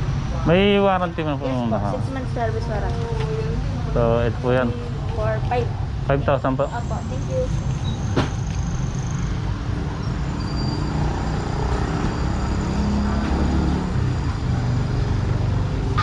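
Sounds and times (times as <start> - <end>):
low road traffic rumble: 0.0 - 16.0.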